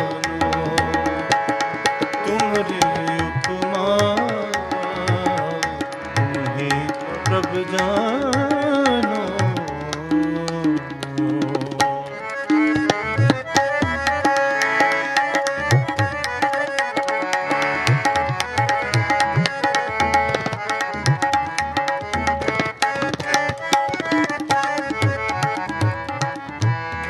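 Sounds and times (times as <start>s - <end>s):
harmonium melody: 0.0s - 27.0s
tabla strokes: 0.0s - 27.0s.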